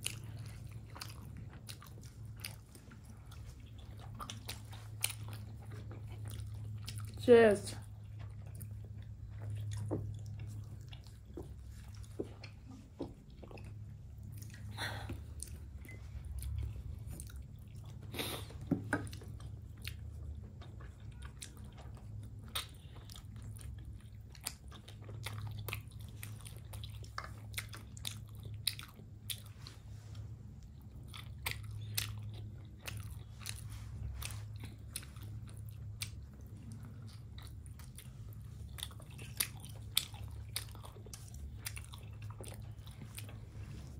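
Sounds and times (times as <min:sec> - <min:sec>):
person chewing: 0:00.0 - 0:07.2, 0:07.8 - 0:43.9
steady low hum: 0:00.0 - 0:43.9.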